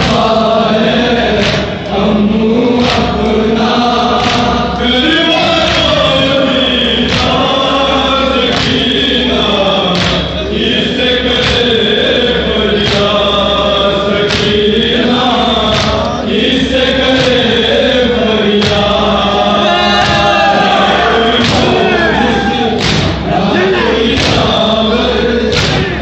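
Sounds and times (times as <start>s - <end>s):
group chest-beating strikes: 0.0s - 26.0s
men chanting in unison: 0.0s - 26.0s.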